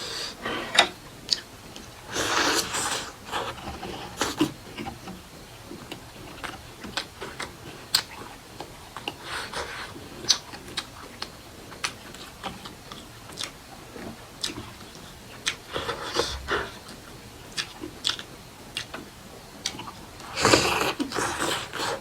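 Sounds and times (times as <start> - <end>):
wet mouth clicks and chewing: 1.3 - 3.1, 5.9 - 22.0.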